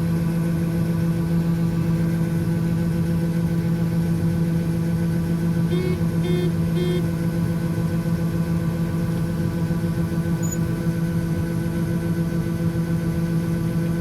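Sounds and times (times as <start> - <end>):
farm machinery humming: 1.2 - 12.8.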